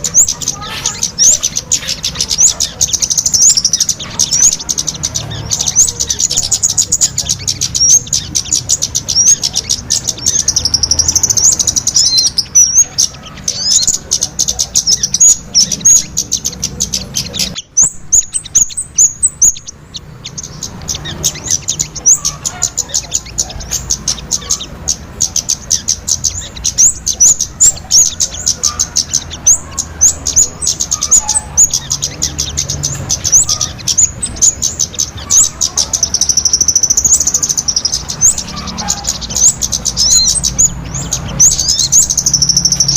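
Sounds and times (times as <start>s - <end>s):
rapid high-pitched bird chirps: 0.0s - 42.9s.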